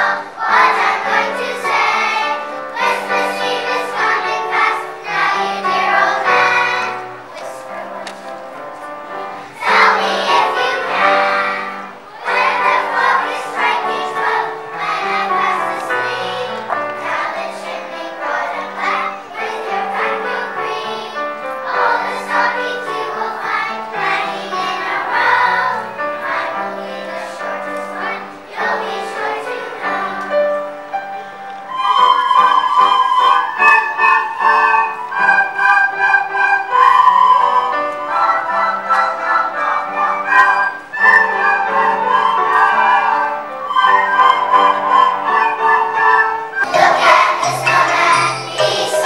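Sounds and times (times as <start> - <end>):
children's choir singing: 0.0 - 49.0
instrumental accompaniment: 0.0 - 49.0.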